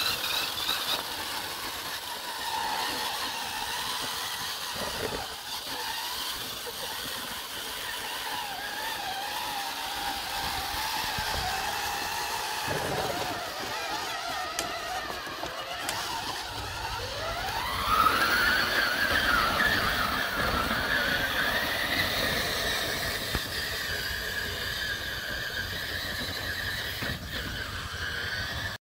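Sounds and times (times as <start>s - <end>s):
electric motors whining: 0.0s - 28.8s
tyres rumbling on rough ground: 0.0s - 28.8s.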